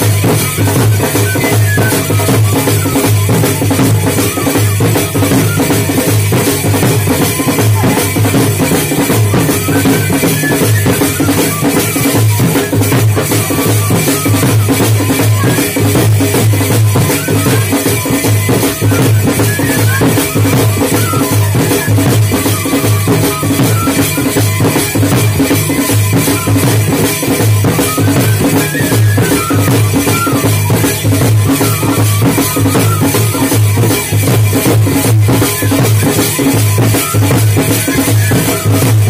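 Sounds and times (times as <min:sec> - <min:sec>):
drums playing steady beat: 0:00.0 - 0:39.0.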